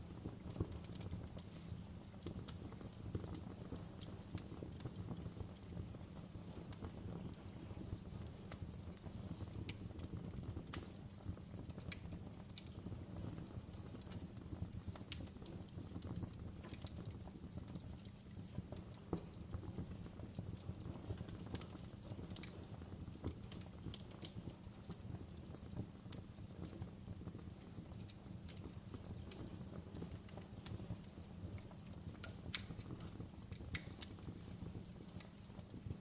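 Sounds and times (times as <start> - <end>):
wood fire crackling: 0.0 - 36.0
sharp pops and snaps: 0.1 - 36.0.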